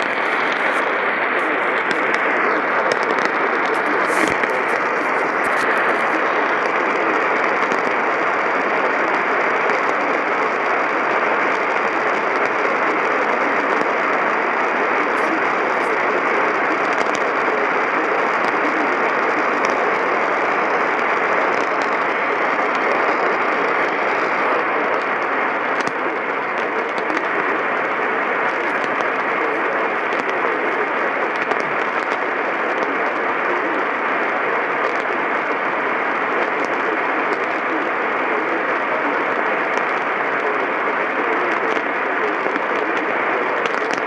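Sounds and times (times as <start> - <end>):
radio static hiss: 0.0 - 44.0.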